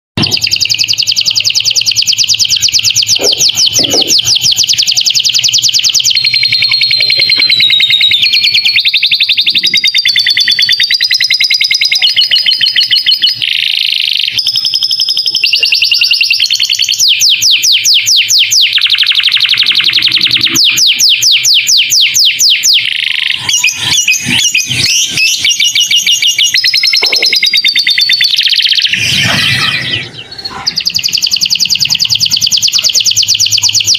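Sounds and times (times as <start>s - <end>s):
canary singing trills: 0.2s - 33.9s.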